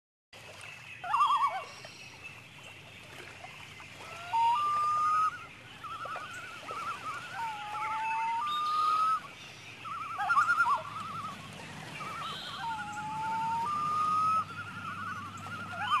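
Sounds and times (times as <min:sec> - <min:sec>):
lake water lapping: 0:00.4 - 0:16.0
loons calling: 0:01.0 - 0:02.0, 0:03.9 - 0:16.0.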